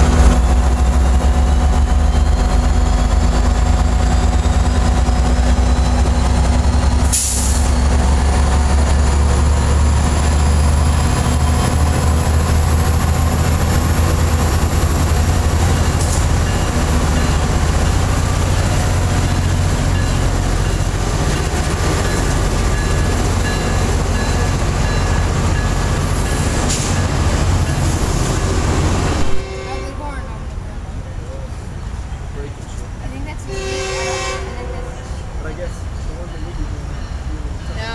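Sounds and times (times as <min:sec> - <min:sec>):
diesel locomotive rumbling: 0:00.0 - 0:37.9.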